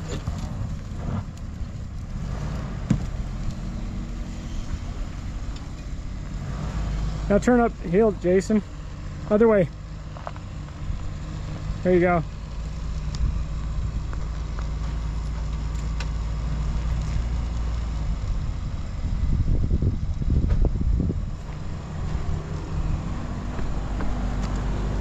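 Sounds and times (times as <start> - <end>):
rough low rumble: 0.0 - 25.0
vehicle engine running: 0.0 - 25.0.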